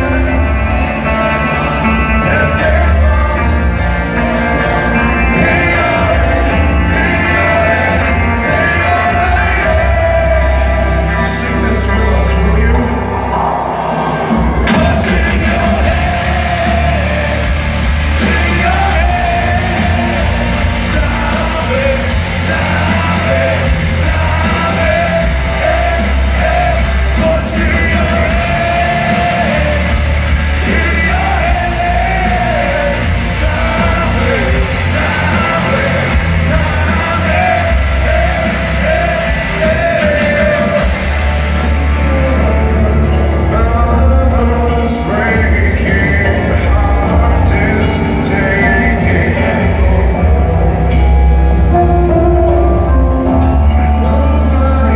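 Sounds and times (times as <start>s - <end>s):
heavy rock band playing live: 0.0s - 54.9s
man singing lead vocal: 0.0s - 54.9s.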